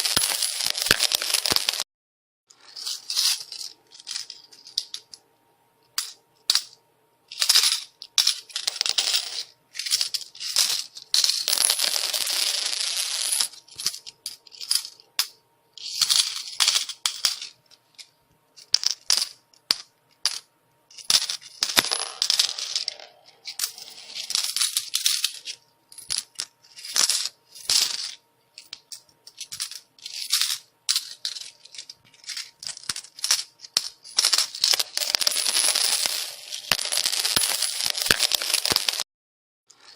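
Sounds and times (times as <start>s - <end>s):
metal coins pouring and clinking: 0.0s - 1.8s, 2.6s - 5.1s, 7.3s - 39.0s.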